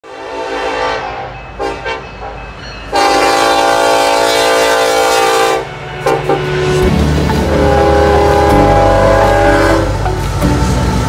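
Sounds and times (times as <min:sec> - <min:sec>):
locomotive air horn: 0:00.0 - 0:02.1, 0:02.9 - 0:11.0.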